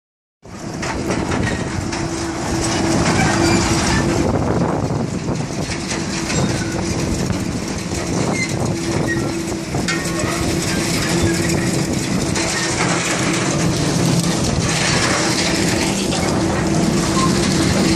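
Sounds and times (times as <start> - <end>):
steady machine hum: 0.5 - 17.9
bucket chain clanking and rattling: 0.6 - 17.9.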